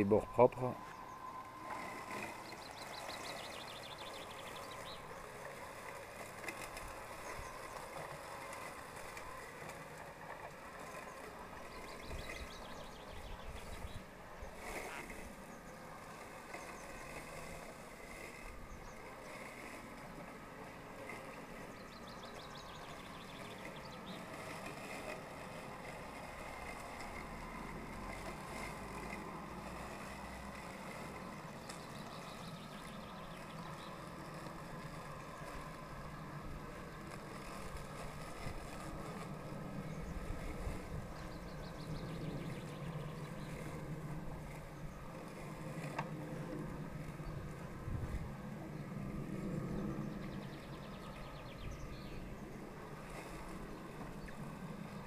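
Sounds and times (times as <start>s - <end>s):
robotic lawnmower motor whine: 0.0s - 55.0s.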